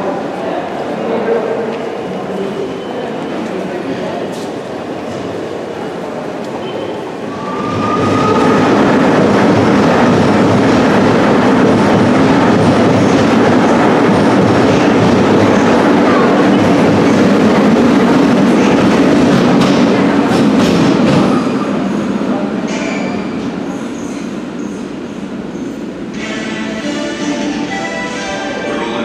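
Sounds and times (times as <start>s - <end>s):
train wheels rumbling on rail: 3.2s - 27.6s.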